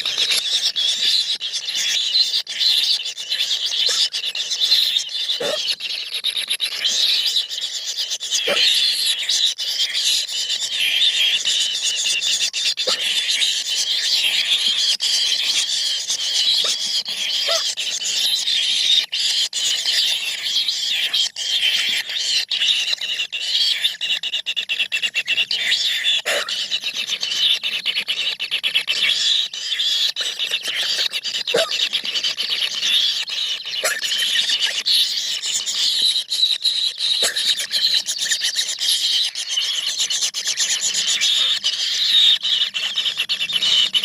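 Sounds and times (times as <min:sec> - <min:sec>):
bird chicks begging calls: 0:00.0 - 0:44.0.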